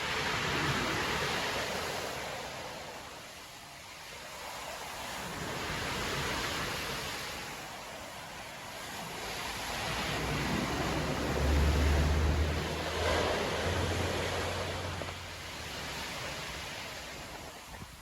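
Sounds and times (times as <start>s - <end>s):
sea wave breaking: 0.0s - 18.0s.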